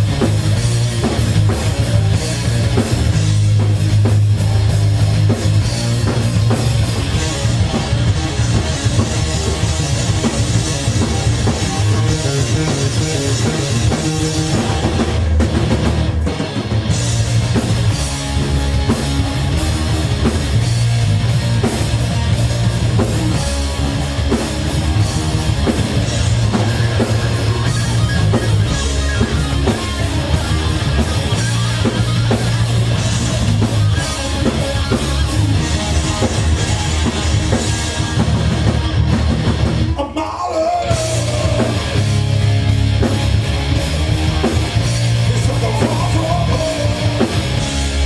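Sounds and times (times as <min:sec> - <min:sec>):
bass guitar: 0:00.0 - 0:48.0
drum kit: 0:00.0 - 0:48.0
electric guitars: 0:00.0 - 0:48.0.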